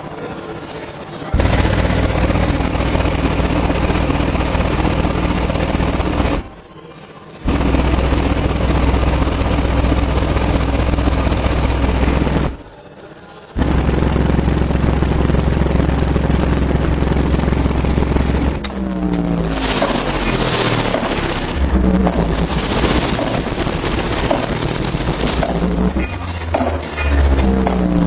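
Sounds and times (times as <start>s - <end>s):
distorted deep bass tone: 1.4s - 6.6s, 7.4s - 12.8s, 13.6s - 28.0s.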